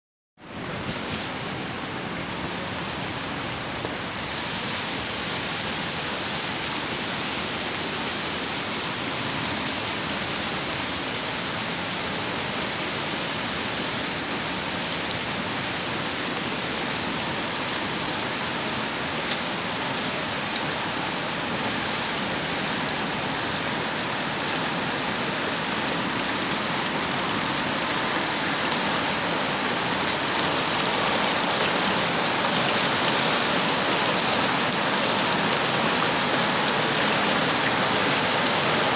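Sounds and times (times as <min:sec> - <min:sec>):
heavy rain pouring: 0:00.4 - 0:38.9.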